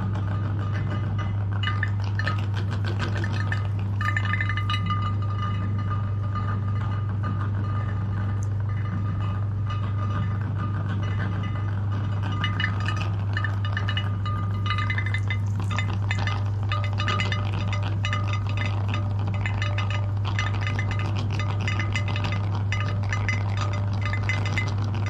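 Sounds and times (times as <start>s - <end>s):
steady low hum: 0.0s - 25.0s
jelly clinking against glass bowl: 0.8s - 10.3s, 12.2s - 25.0s.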